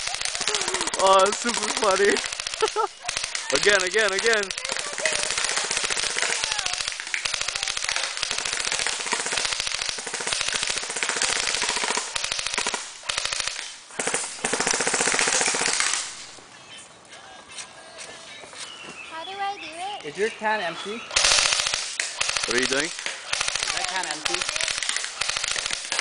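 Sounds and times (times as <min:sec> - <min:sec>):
airsoft rifle firing full-auto: 0:00.0 - 0:16.3, 0:21.2 - 0:26.0.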